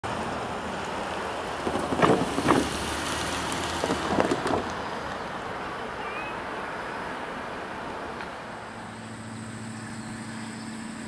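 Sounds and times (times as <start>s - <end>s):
wind gusts: 0.0s - 11.0s.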